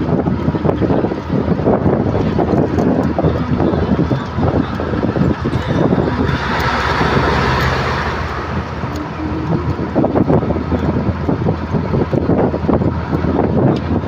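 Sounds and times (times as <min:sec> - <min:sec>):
fast train rumbling: 0:00.0 - 0:14.0.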